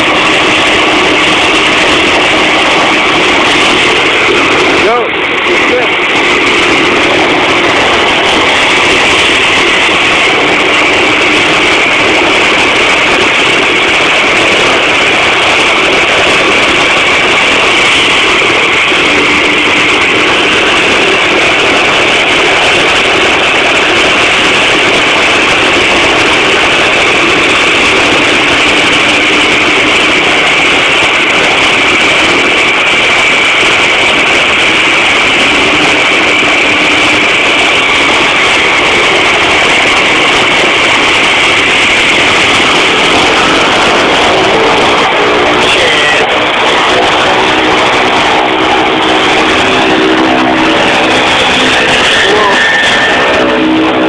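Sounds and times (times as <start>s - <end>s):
turboprop engines idling: 0.0s - 54.0s.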